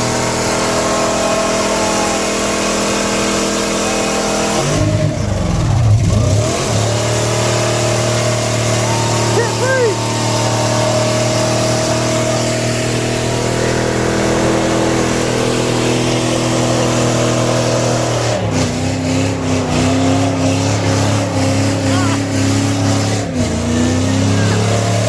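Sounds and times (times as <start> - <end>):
car engine revving high: 0.0 - 25.0.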